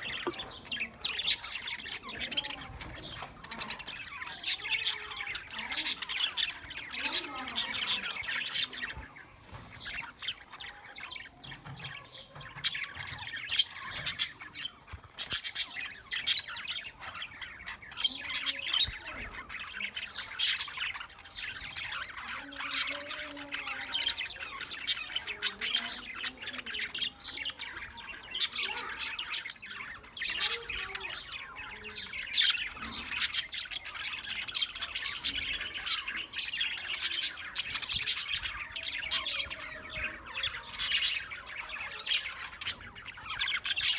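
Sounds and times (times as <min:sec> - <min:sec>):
birds chirping and squawking: 0:00.0 - 0:43.9.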